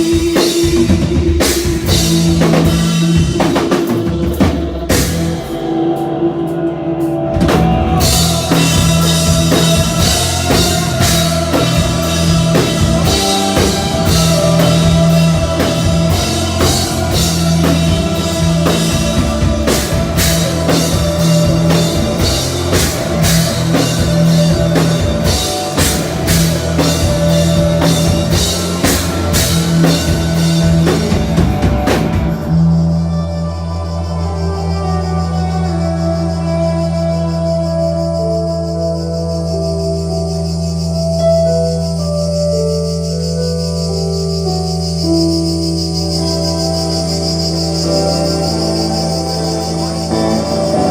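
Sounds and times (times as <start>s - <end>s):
drum kit and cymbals: 0.0s - 50.9s
sustained drone: 0.0s - 50.9s
sustained guitar and bass: 0.0s - 50.9s.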